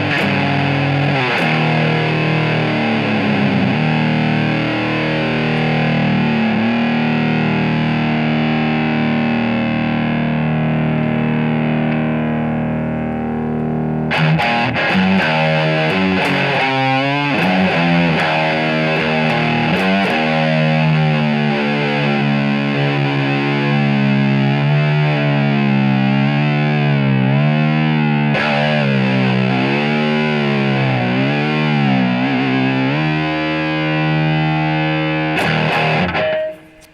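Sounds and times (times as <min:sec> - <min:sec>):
distorted electric guitar: 0:00.0 - 0:36.9.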